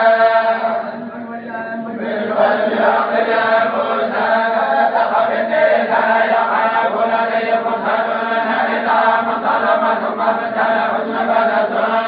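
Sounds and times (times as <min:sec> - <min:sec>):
group chanting recitation: 0:00.0 - 0:12.0.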